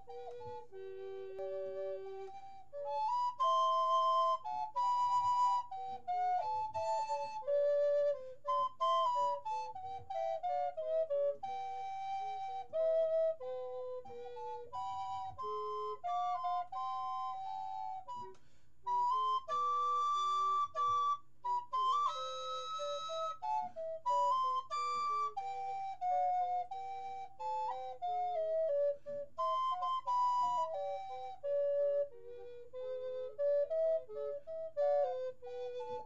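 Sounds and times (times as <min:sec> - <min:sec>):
solo flute melody: 0:00.0 - 0:36.0.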